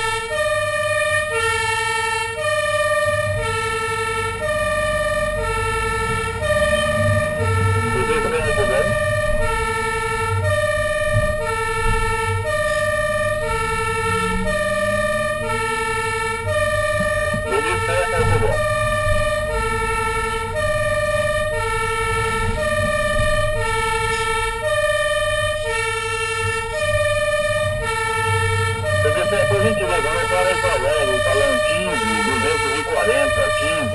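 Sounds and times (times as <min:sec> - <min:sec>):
fire engine two-tone siren: 0:00.0 - 0:33.9
truck engine rumble: 0:00.0 - 0:33.9.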